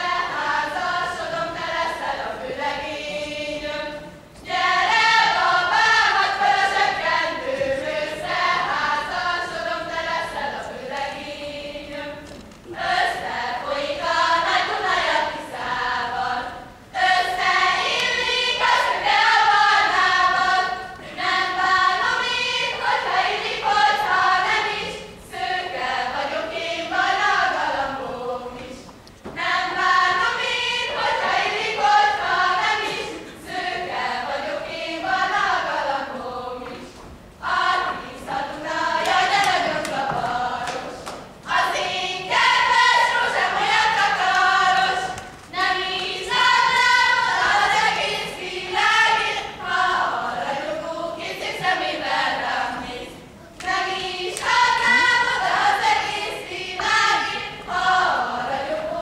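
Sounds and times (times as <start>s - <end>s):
girls singing in unison: 0.0s - 59.0s.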